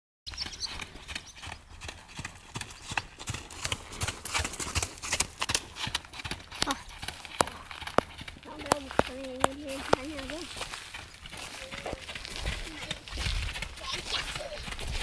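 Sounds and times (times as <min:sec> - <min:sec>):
pony hoofbeats on sand: 0:00.3 - 0:15.0.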